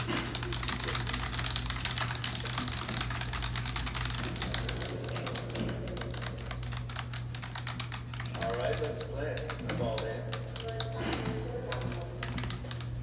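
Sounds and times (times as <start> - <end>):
fast typing on keyboard: 0.0 - 13.0
steady low hum: 0.0 - 13.0.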